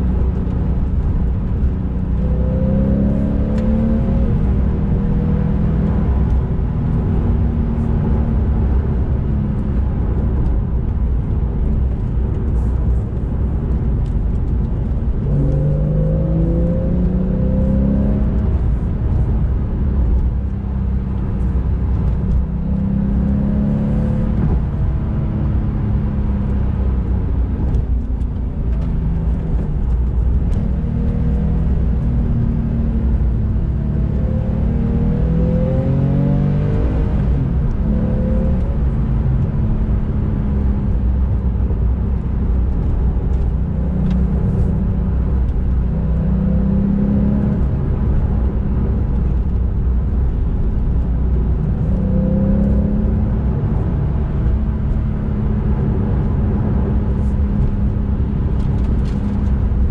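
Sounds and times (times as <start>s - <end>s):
car engine accelerating: 0.0s - 59.9s
road noise inside car: 0.0s - 59.9s.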